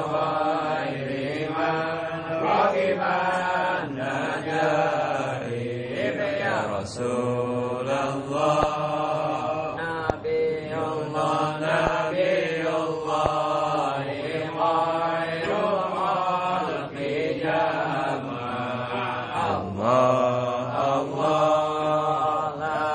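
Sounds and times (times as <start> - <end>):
men chanting: 0.0 - 22.9.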